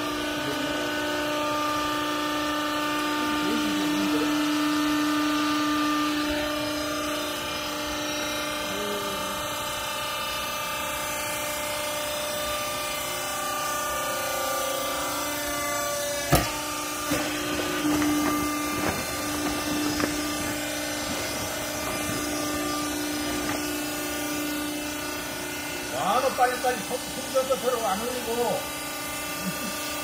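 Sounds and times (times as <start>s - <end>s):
baler motor humming: 0.0s - 30.0s.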